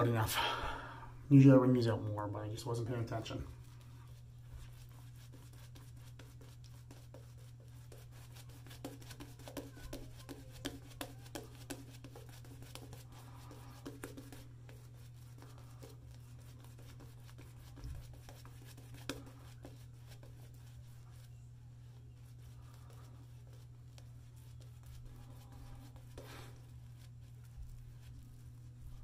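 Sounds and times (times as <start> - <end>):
shaving brush scratchy strokes: 2.9 - 29.0.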